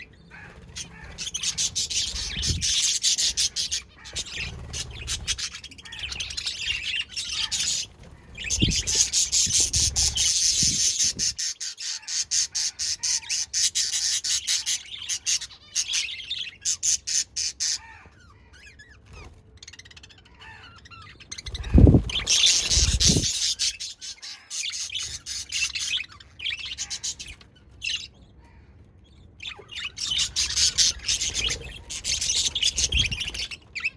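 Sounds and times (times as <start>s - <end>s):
budgies chattering and chirping: 0.0s - 33.9s.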